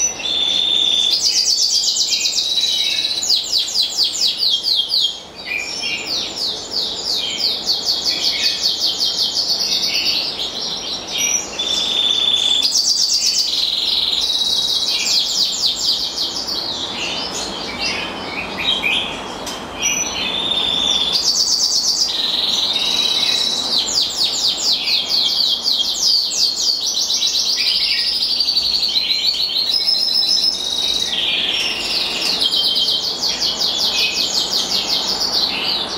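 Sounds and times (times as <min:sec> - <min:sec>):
finch singing trills: 0:00.0 - 0:35.9.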